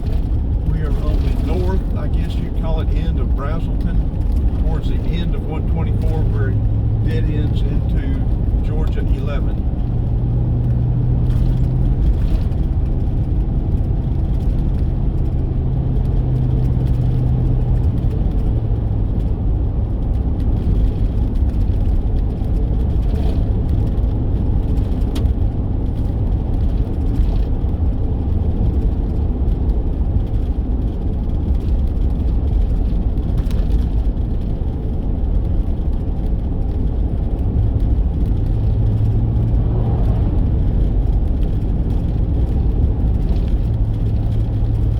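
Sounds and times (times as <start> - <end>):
car engine hum: 0.0 - 44.9
road rumble: 0.0 - 44.9.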